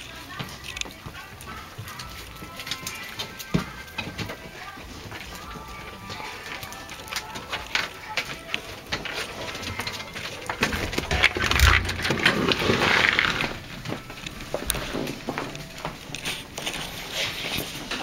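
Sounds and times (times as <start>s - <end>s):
rustling handling noise: 0.0s - 18.0s.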